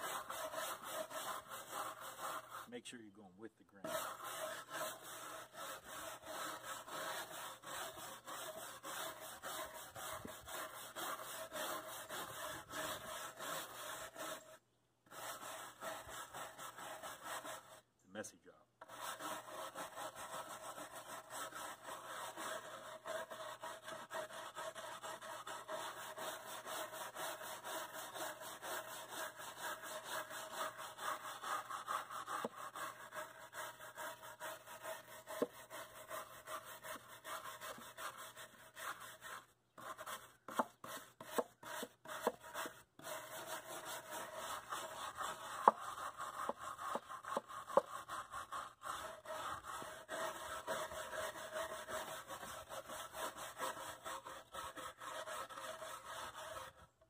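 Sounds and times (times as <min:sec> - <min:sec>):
bristle brush scrubbing wood: 0:00.0 - 0:02.7, 0:03.8 - 0:17.8, 0:18.8 - 0:56.9.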